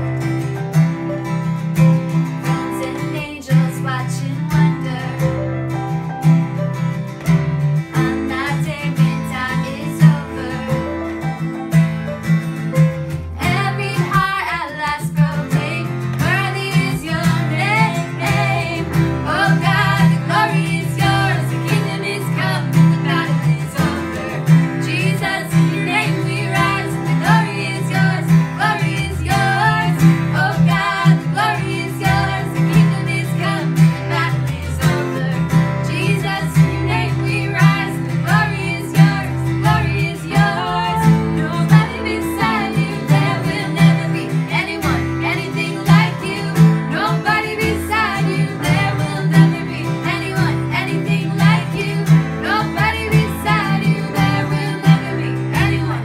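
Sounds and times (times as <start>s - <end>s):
strummed acoustic guitar: 0.0s - 56.0s
person singing: 2.6s - 5.4s, 7.9s - 11.2s, 13.4s - 56.0s.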